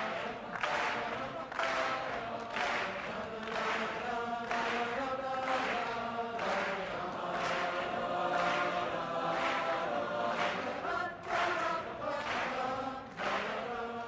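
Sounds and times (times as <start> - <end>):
choir-like background music: 0.0 - 14.0.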